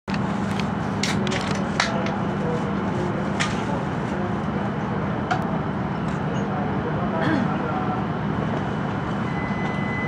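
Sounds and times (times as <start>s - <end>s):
low hum inside train cabin: 0.1s - 10.0s.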